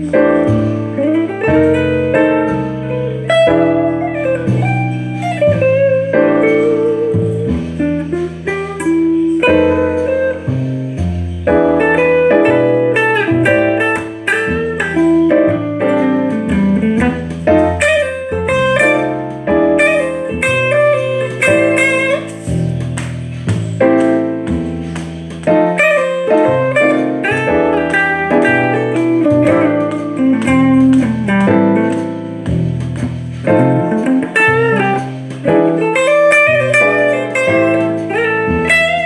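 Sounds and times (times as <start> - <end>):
backing track with bass and keyboard: 0.0 - 39.0
electric guitar blues solo: 0.0 - 39.0.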